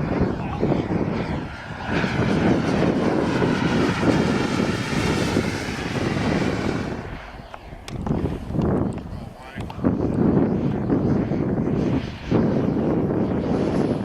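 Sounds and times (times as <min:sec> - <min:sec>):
jet turbine whine: 0:00.0 - 0:14.0.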